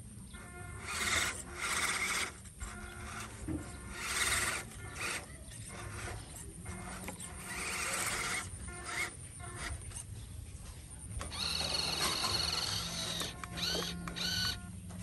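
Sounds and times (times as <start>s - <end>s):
toy truck motor whining: 0.3s - 10.1s, 11.2s - 15.0s.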